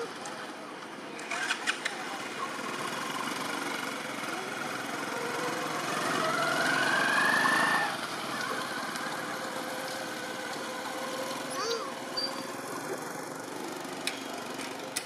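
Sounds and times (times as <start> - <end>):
small engine running: 1.2 - 15.0.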